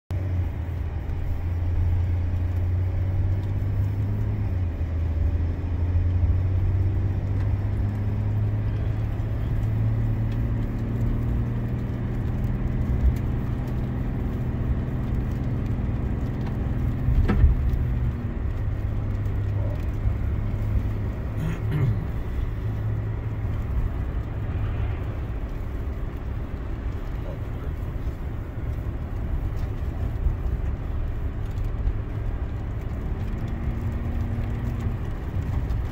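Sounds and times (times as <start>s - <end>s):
car engine and tyres drone: 0.1s - 35.9s.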